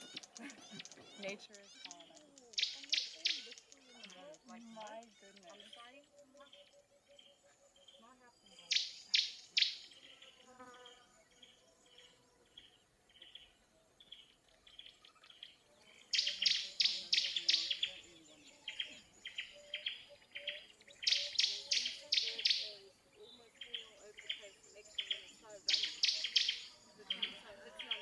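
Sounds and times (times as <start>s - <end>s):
bird chirps: 0.0s - 28.0s.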